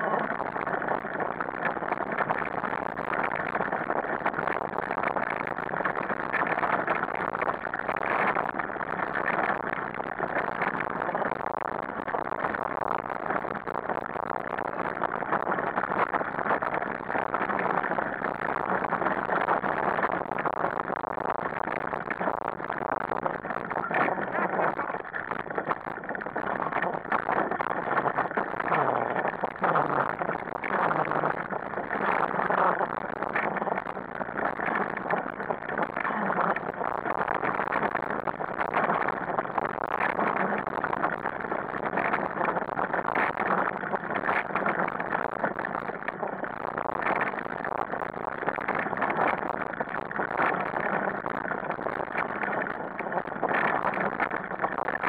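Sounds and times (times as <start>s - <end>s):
wheels rumbling on gravel: 0.0s - 54.6s.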